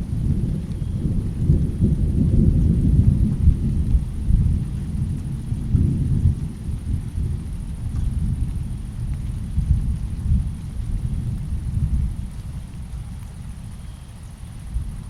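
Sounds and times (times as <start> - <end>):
rolling thunder rumble: 0.0 - 15.0.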